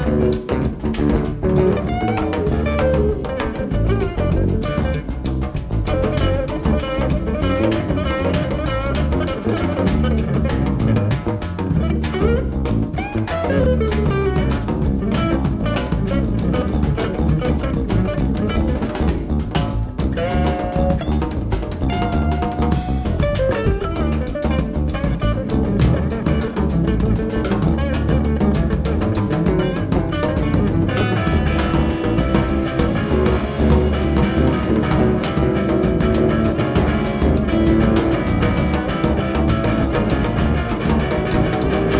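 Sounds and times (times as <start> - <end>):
jazz-rock band playing: 0.0 - 41.9.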